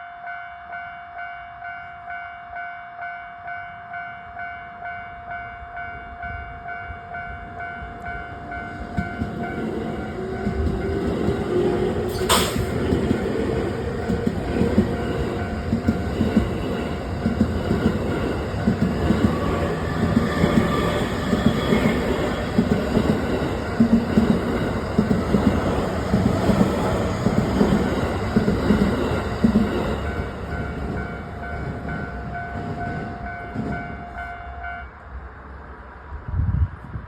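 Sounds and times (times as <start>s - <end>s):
train rumbling past: 3.6s - 37.0s.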